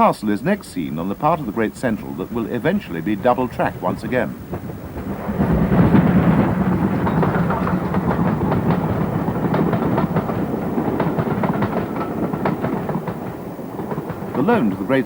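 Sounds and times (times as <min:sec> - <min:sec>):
steam locomotive rumbling: 0:00.0 - 0:15.0
wheels clicking on rails: 0:00.0 - 0:15.0.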